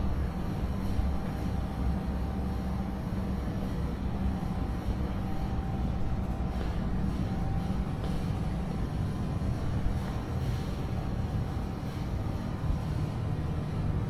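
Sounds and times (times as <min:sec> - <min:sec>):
low hum and rumble: 0:00.0 - 0:14.0.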